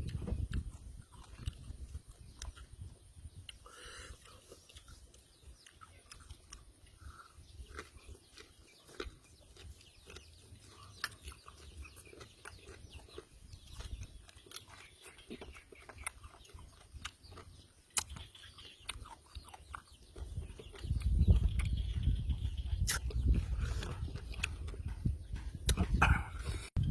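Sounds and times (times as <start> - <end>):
man chewing with mouth smacks: 0.0 - 26.9.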